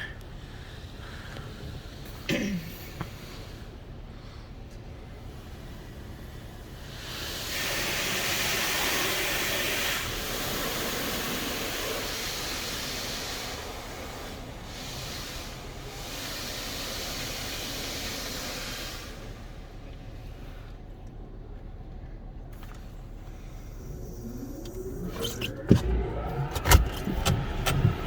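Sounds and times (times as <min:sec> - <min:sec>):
car wash jets hissing: 0:02.9 - 0:28.0.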